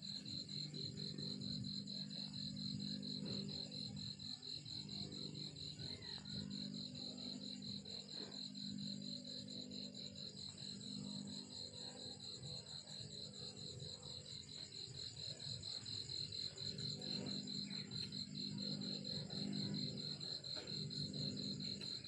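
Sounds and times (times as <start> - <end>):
cricket chirping: 0.0 - 22.0
low steady hum: 0.0 - 22.0.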